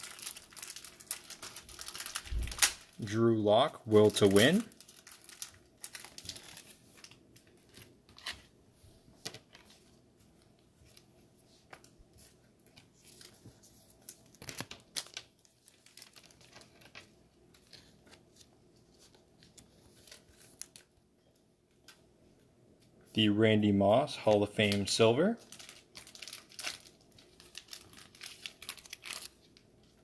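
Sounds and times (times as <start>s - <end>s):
card wrapper crinkling: 0.0s - 3.1s, 3.9s - 8.4s, 9.2s - 21.0s, 24.4s - 30.0s.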